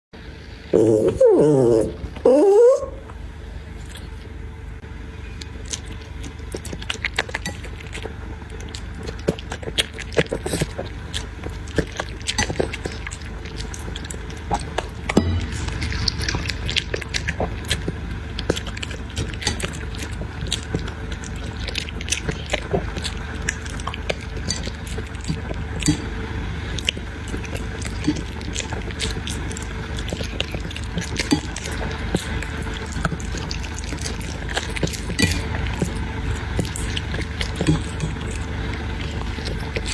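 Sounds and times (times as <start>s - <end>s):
steady low hum: 0.2s - 39.9s
puppy eating from a bowl: 0.4s - 39.9s.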